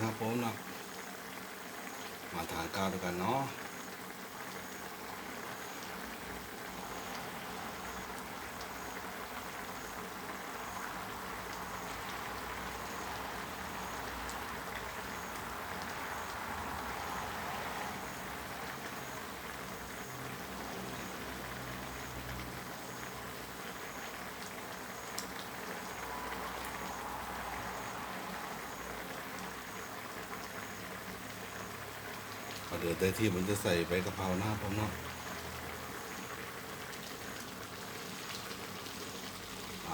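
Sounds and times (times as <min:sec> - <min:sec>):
curry bubbling in a pot: 0:00.0 - 0:39.9.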